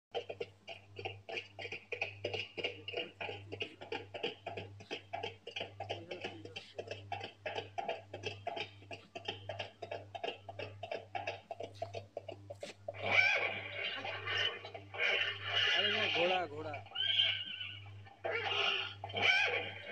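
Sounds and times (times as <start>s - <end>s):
steady low hum: 0.1s - 19.9s.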